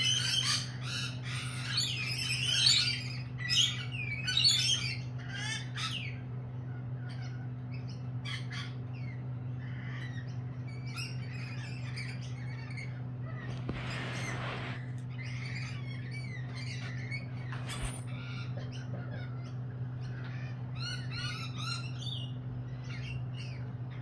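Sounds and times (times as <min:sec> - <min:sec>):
lorikeets calling: 0:00.0 - 0:24.0.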